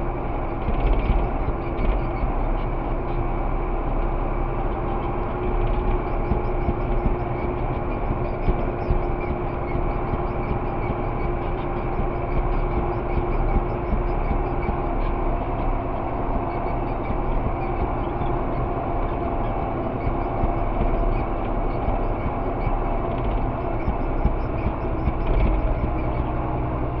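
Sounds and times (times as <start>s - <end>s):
tractor diesel engine rumbling: 0.0s - 27.0s.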